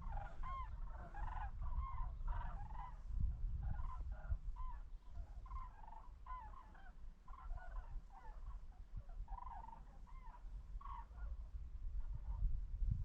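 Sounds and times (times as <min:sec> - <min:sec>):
flock of birds calling: 0:00.0 - 0:03.0, 0:03.6 - 0:11.4.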